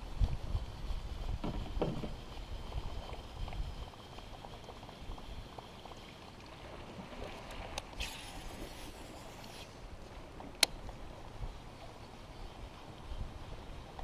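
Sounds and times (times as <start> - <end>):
wind rumbling on microphone: 0.0 - 14.0
lure splashing across water: 1.2 - 14.0.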